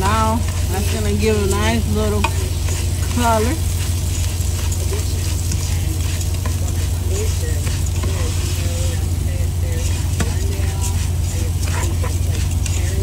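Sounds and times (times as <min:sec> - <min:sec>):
rice frying in oil: 0:00.0 - 0:13.0
spatula scraping pot: 0:00.0 - 0:13.0
steady low hum: 0:00.0 - 0:13.0.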